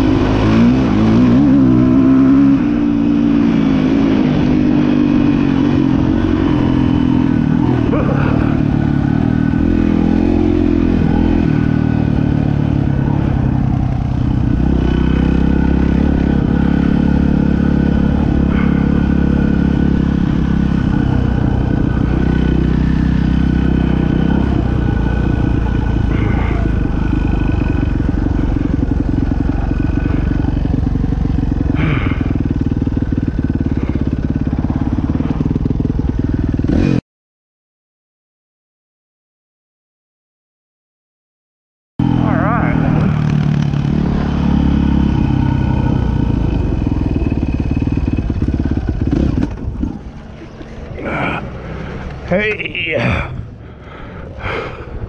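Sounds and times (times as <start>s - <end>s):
dirt bike engine revving: 0.0s - 37.0s, 42.0s - 54.7s.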